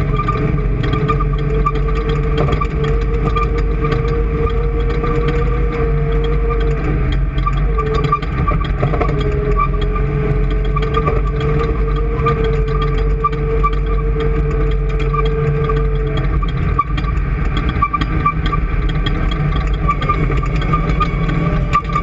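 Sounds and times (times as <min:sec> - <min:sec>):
engine running steadily: 0:00.0 - 0:22.0
held whine: 0:00.0 - 0:22.0
rapid light ticking: 0:00.0 - 0:22.0.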